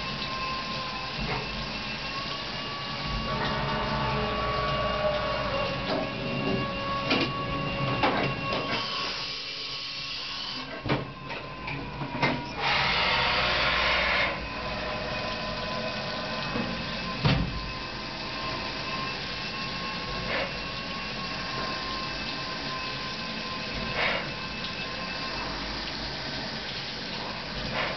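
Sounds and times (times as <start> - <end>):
machine spindle whine: 0.0 - 27.9.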